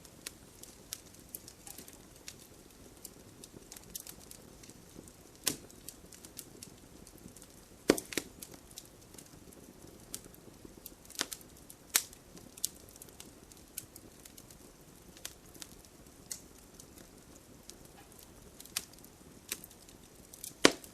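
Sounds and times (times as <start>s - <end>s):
campfire crackling and popping: 0.0s - 20.9s
low hiss of flames: 0.0s - 20.9s.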